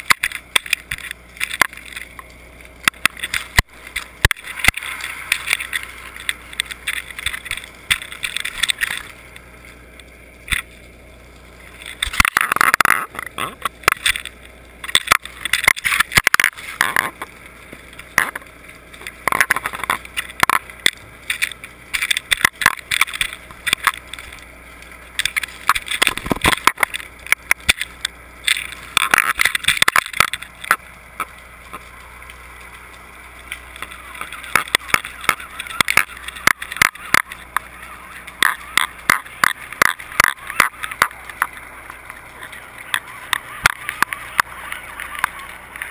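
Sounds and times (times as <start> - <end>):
clicking and knocking underwater: 0.0 - 45.9
underwater rushing water: 0.0 - 45.9.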